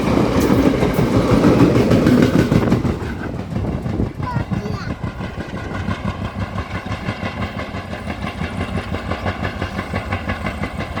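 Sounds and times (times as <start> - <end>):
diesel train running: 0.0 - 11.0.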